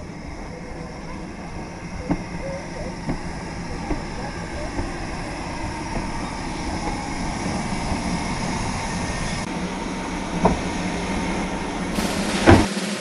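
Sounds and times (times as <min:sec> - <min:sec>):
steam locomotive hiss and rumble: 0:00.0 - 0:13.0.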